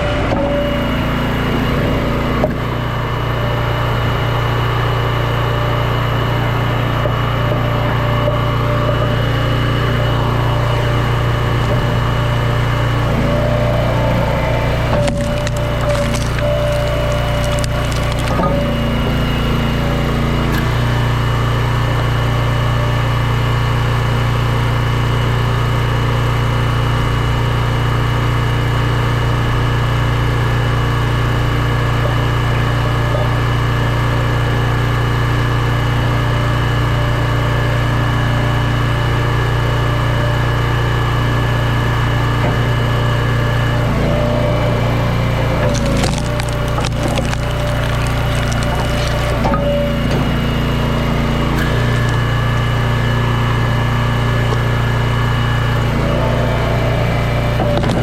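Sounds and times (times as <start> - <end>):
small gas engine running: 0.0 - 58.0.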